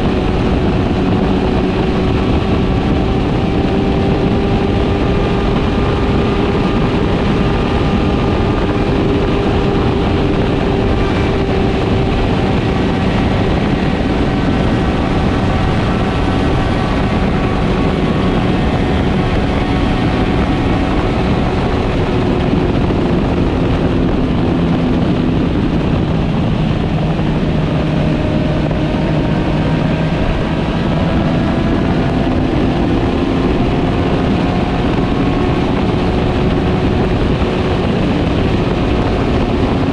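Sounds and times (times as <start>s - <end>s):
heavy wind: 0.0s - 39.9s
motorcycle engine cruising: 0.0s - 39.9s
road rumble: 0.0s - 39.9s.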